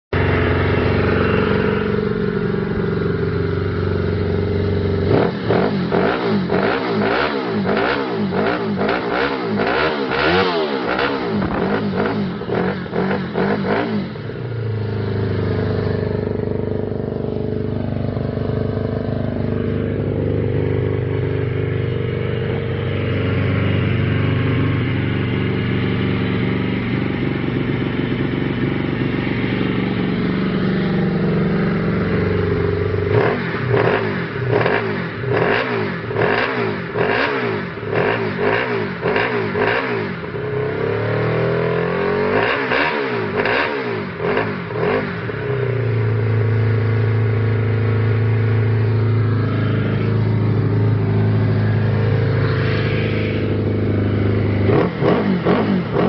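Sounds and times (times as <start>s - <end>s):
motorcycle engine idling and revving: 0.1s - 56.0s.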